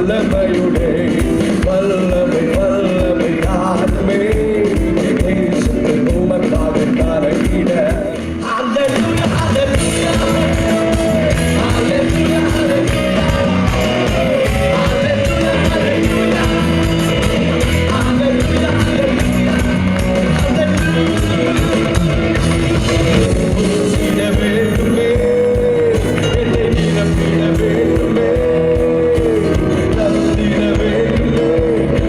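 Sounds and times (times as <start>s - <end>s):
upbeat music with singing: 0.0s - 32.0s.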